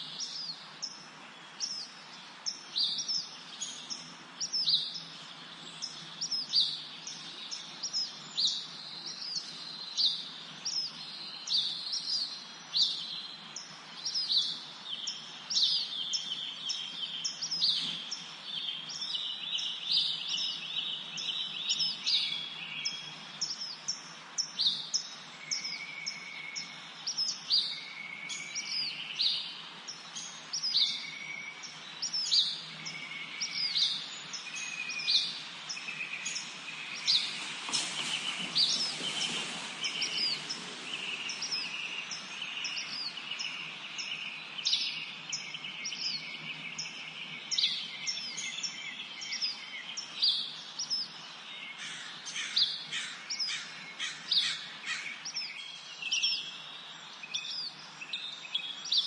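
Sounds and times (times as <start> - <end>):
soft steady hiss: 0.0 - 59.0
songbirds chirping: 0.0 - 59.0.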